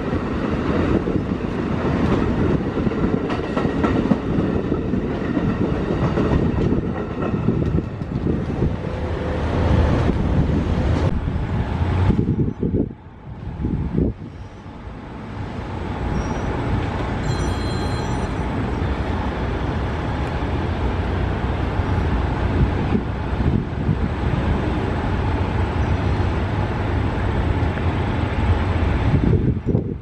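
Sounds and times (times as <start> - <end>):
diesel locomotive rumbling: 0.0 - 30.0.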